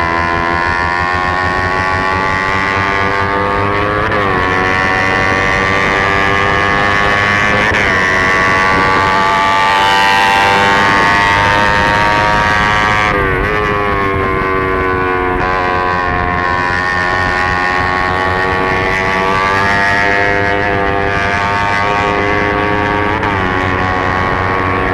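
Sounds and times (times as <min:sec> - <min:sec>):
motorcycle engine at high revs: 0:00.0 - 0:24.9
wind rushing over camera: 0:00.9 - 0:24.9.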